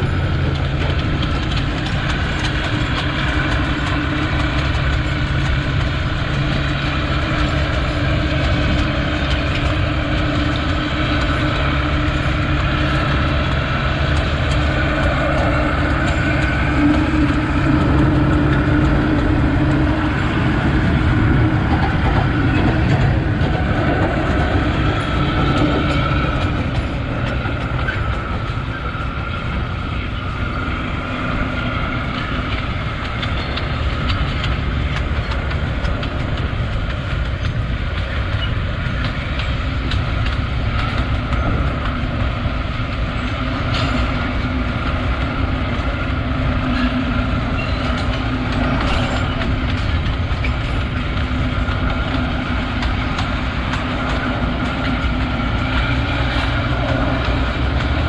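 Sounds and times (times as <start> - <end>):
diesel locomotive engine: 0.0 - 58.0
loaded wagons rolling: 0.0 - 58.0
vehicle road and wind noise: 0.0 - 58.0.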